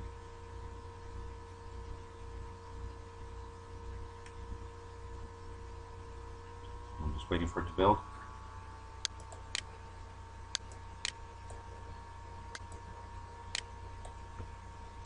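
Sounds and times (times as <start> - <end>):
electrical hum: 0.0 - 15.0
faint high whine: 0.0 - 15.0.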